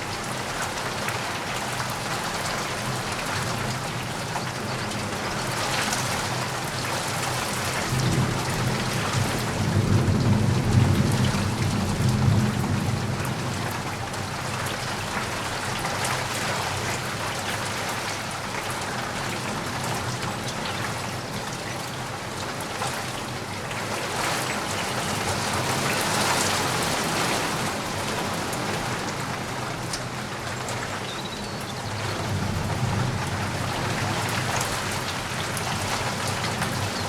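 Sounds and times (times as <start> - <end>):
raindrops ticking close by: 0.0 - 37.0
steady rain falling: 0.0 - 37.0.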